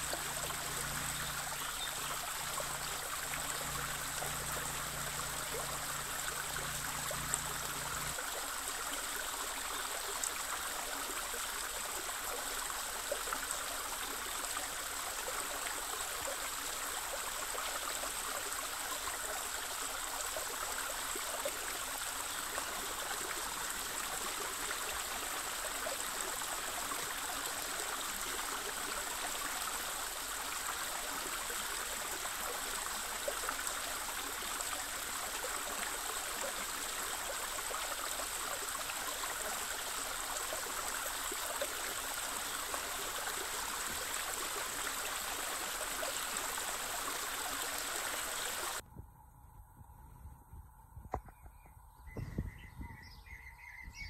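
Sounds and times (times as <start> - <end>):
creek running over rocks: 0.0 - 48.8.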